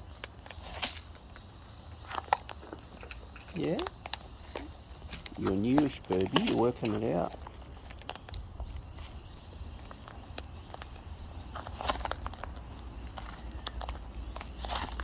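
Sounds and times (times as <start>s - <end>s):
parrots cracking seeds: 0.0s - 15.0s.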